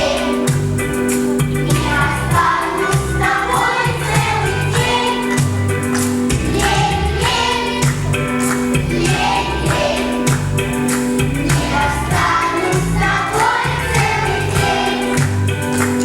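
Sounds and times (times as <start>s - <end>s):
group of voices singing: 0.0s - 0.9s, 1.5s - 16.0s
instrumental accompaniment with bass: 0.0s - 16.0s.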